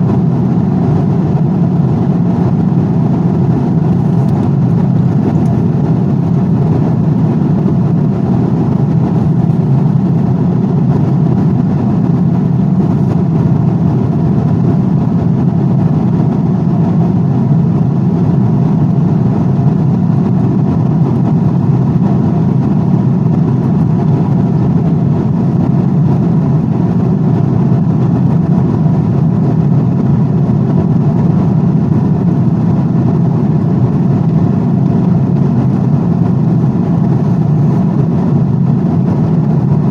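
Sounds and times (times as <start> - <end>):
aircraft low rush: 0.0 - 39.9.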